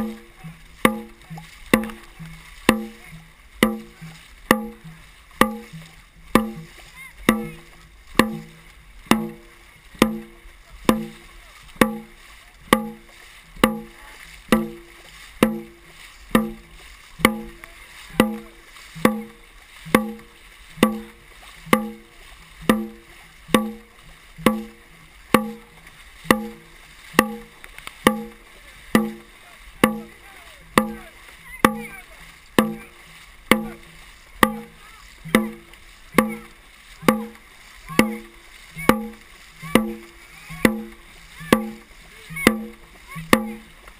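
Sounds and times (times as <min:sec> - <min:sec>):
drum beaten in steady rhythm: 0:00.0 - 0:43.9
water splashing from paddles: 0:00.0 - 0:43.9.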